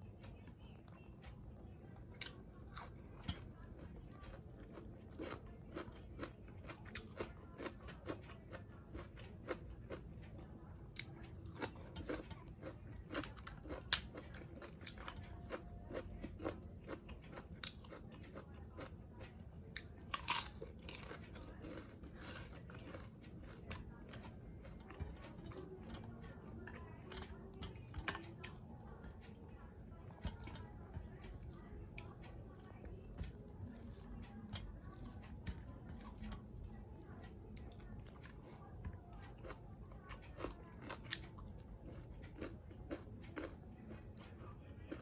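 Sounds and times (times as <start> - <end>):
person chewing crunchy food: 2.1 - 45.0.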